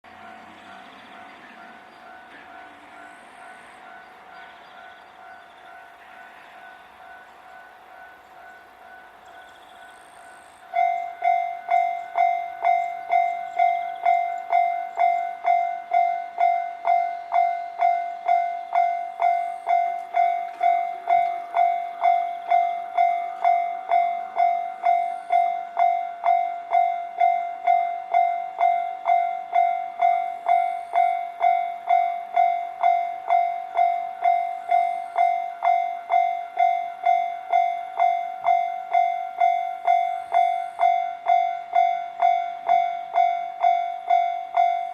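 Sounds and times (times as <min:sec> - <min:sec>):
level crossing warning bell: 0:00.0 - 0:44.9.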